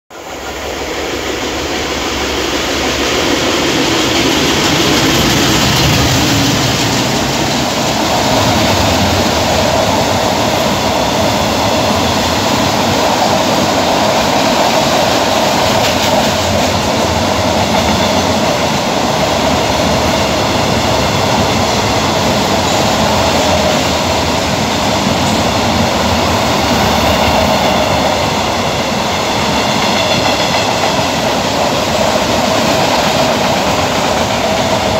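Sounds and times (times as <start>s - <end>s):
diesel locomotive passing: 0.1s - 34.9s
freight train wheel and rail noise: 0.1s - 34.9s.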